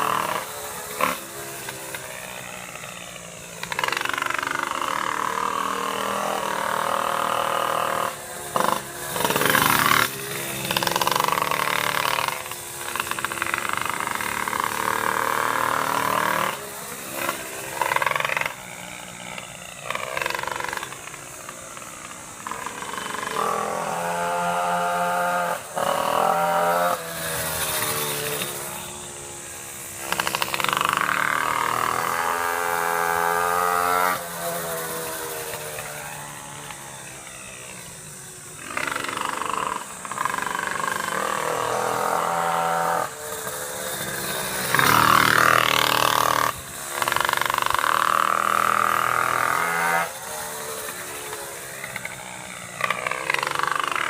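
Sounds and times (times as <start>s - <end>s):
small engines revving past: 0.0s - 54.0s.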